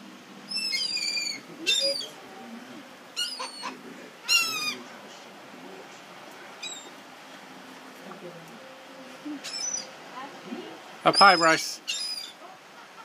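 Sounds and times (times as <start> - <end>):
gulls calling: 0.3 - 7.4, 8.5 - 13.0.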